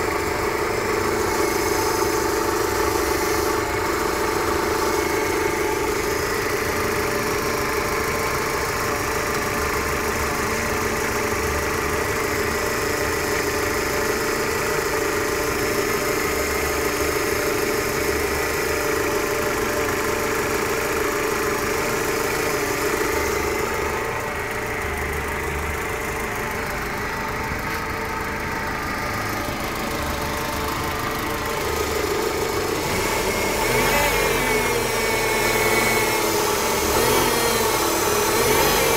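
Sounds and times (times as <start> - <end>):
car engine idling: 0.0 - 38.9
power steering drone: 0.0 - 38.9.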